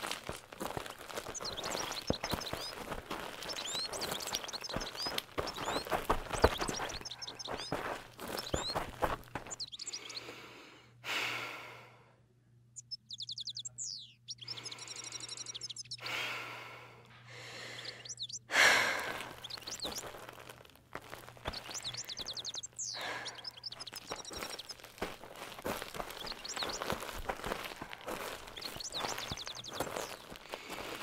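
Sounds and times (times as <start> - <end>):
birds chirping and trilling: 0.0 - 10.8, 12.6 - 31.0.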